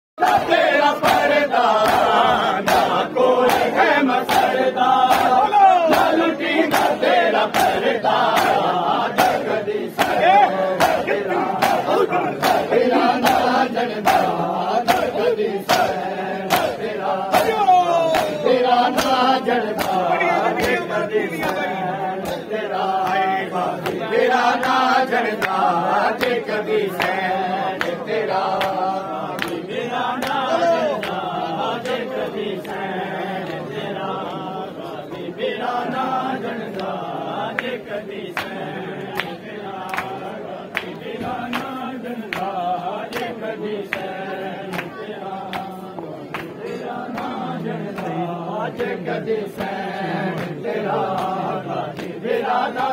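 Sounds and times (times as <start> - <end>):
men chanting together: 0.2 - 52.9.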